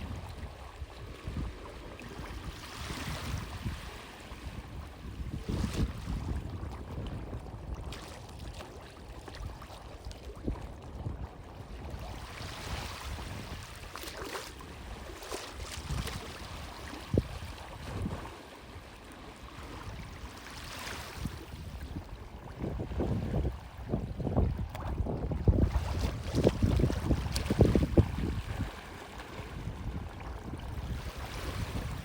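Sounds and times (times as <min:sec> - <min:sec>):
waves washing against quay: 0:00.0 - 0:10.5, 0:11.4 - 0:32.0
wind rumbling on microphone: 0:00.0 - 0:32.0.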